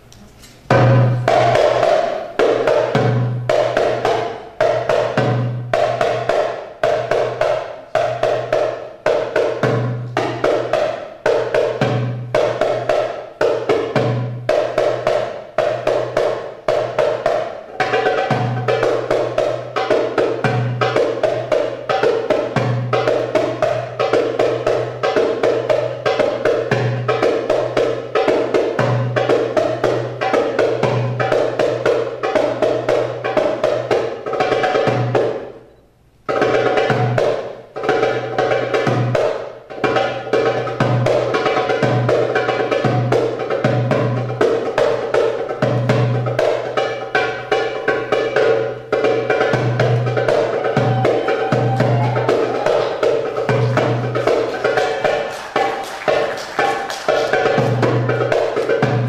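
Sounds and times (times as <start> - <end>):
goblet drum solo: 0.7 - 59.0.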